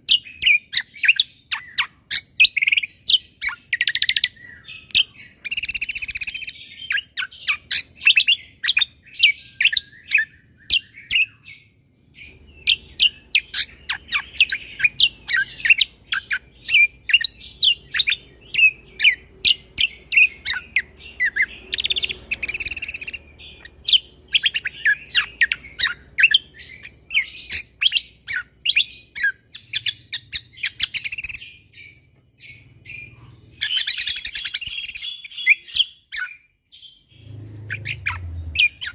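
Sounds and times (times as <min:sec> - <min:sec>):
songbird chirping rapidly: 0:00.0 - 0:38.9.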